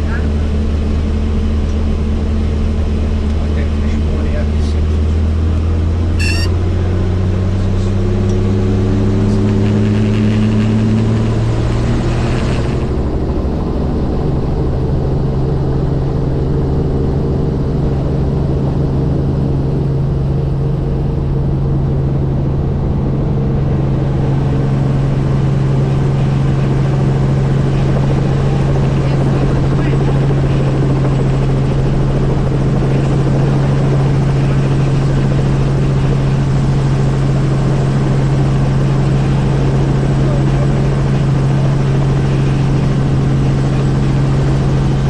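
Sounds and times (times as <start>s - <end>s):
helicopter rotor and turbine: 0.0s - 45.0s.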